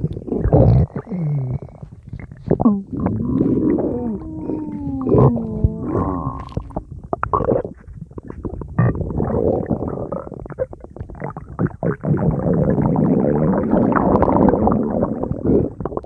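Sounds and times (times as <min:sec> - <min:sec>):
stomach rumbling and gurgling: 0:00.0 - 0:16.0.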